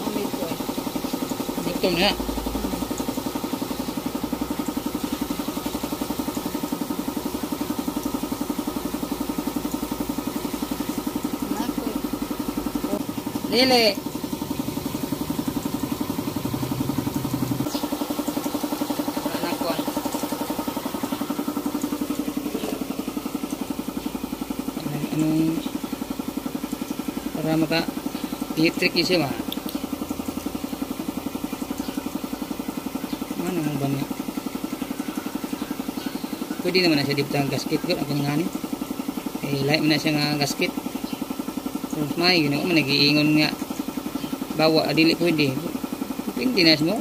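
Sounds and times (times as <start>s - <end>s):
engine idling with rapid pulse: 0.0s - 47.0s.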